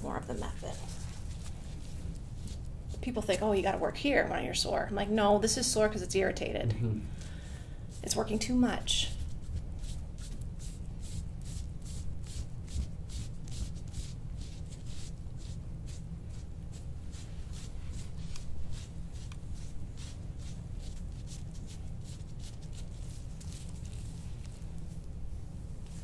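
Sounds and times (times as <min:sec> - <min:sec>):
steady low hum: 0:00.0 - 0:26.0
rubbing strokes on skin: 0:00.3 - 0:03.6, 0:07.1 - 0:26.0.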